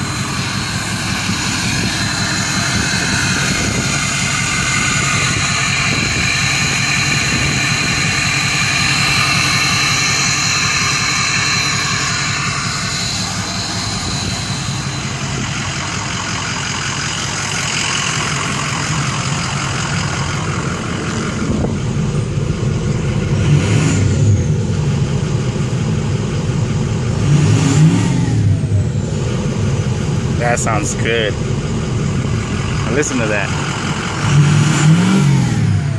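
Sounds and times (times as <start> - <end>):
diesel engine idling: 0.0 - 35.9
engine revving: 0.0 - 35.9
high-pitched turbo whine: 0.0 - 35.9.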